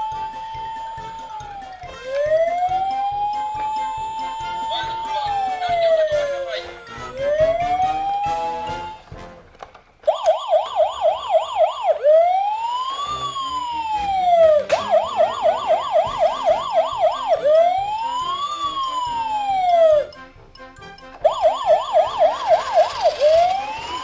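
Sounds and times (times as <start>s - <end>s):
toy siren yelp and wail: 0.0s - 9.0s, 10.0s - 20.2s, 21.2s - 24.0s.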